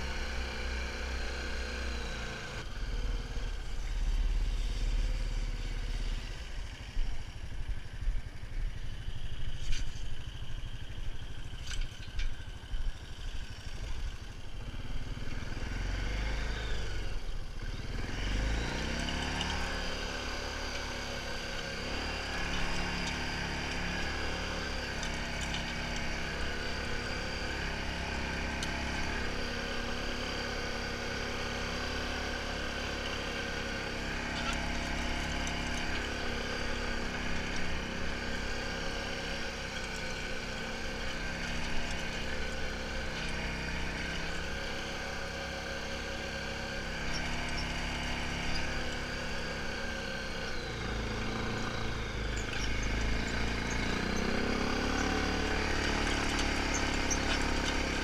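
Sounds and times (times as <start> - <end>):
single-cylinder engine running: 0.0 - 58.0.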